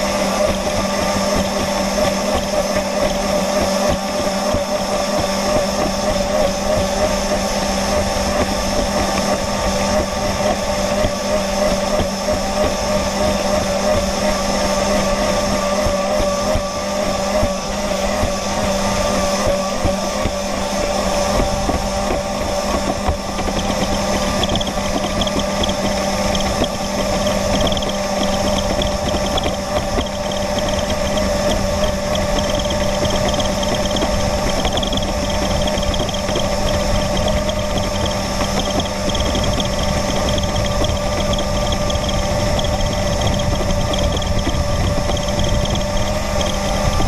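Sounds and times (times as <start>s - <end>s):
model boat motor running: 0.0s - 47.0s
water rushing against hull: 0.0s - 47.0s.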